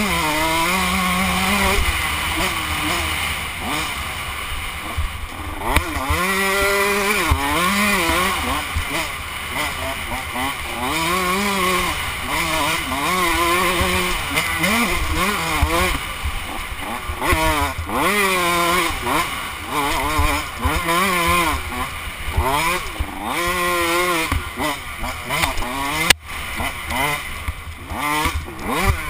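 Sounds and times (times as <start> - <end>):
two-stroke dirt bike engine revving: 0.0 - 29.0.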